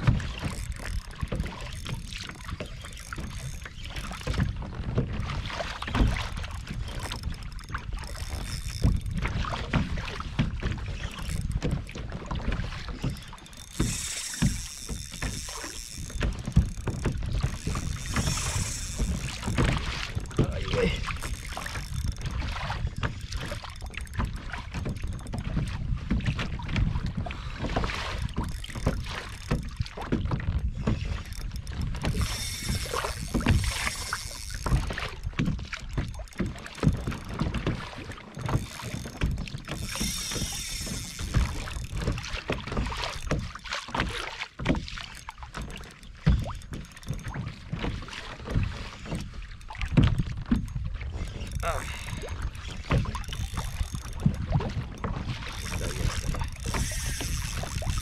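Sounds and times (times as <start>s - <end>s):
wind buffeting microphone: 0.0s - 43.5s, 46.2s - 58.0s
water slapping kayak hull: 0.0s - 58.0s.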